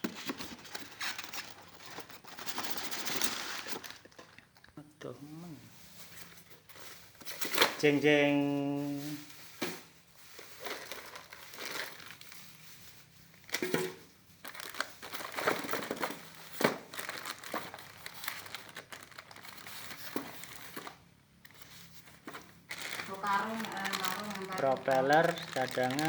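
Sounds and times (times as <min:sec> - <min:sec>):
plastic packaging crinkling: 0:00.0 - 0:04.8, 0:05.7 - 0:26.0.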